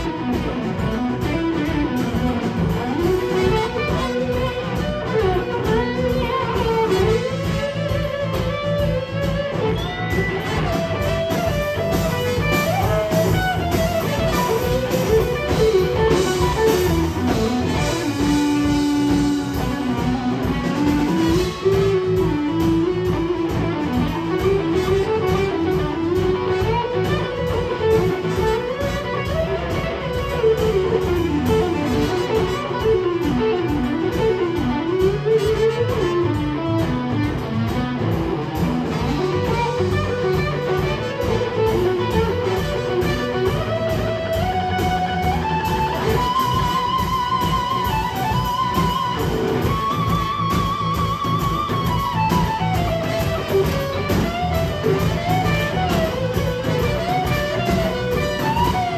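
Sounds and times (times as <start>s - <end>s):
blues-rock band playing: 0.0s - 58.9s
electric guitar lead line: 0.0s - 58.9s.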